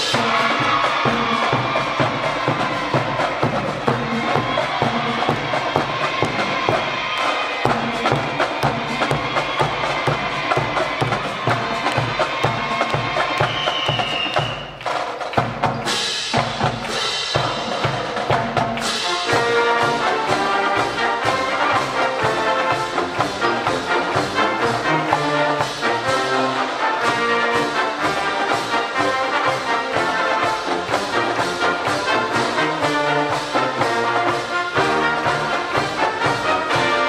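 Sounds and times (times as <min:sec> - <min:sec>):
driving drum beat: 0:00.0 - 0:37.0
marching band brass playing: 0:00.0 - 0:37.0.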